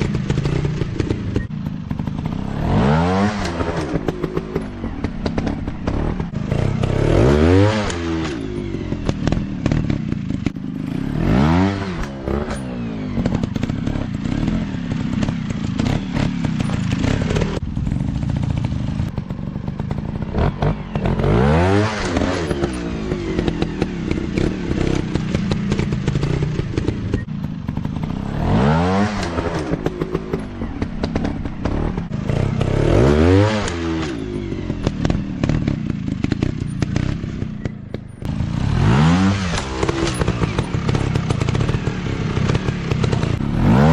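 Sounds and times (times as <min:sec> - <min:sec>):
dirt bike engines revving: 0:00.0 - 0:43.9.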